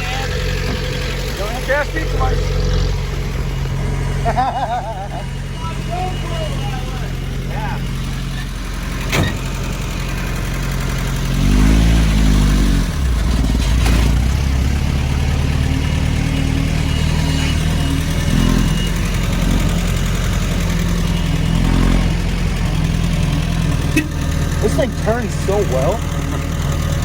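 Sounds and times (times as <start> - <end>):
car engine running and revving: 0.0 - 27.0.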